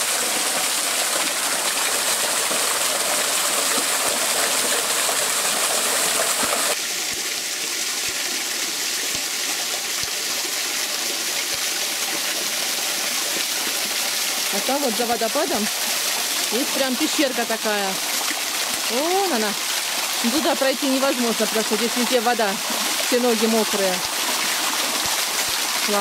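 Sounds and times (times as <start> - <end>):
water rushing down waterfall: 0.0 - 26.0.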